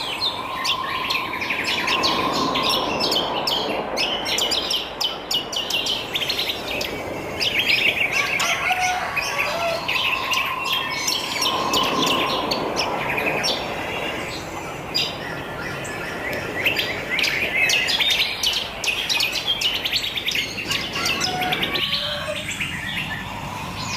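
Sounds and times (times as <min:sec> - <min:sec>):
wild birds chirping and trilling: 0:00.0 - 0:23.9.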